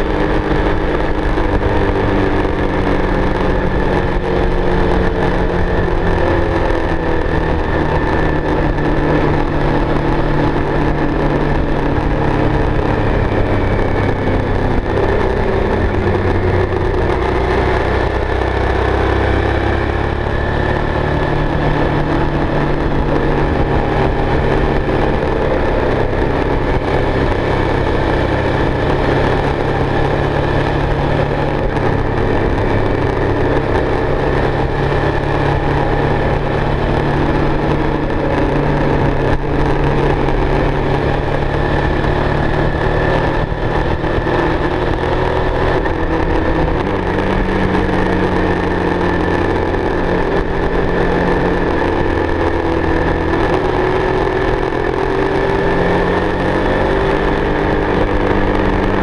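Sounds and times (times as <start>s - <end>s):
motorcycle engine running: 0.0s - 59.0s
road rumble: 0.0s - 59.0s
wind noise: 0.0s - 59.0s.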